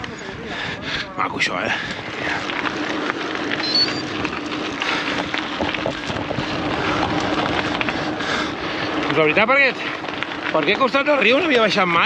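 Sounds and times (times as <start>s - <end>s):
wind rushing over microphone: 0.0s - 10.4s
bike tyres on gravel: 0.0s - 12.0s.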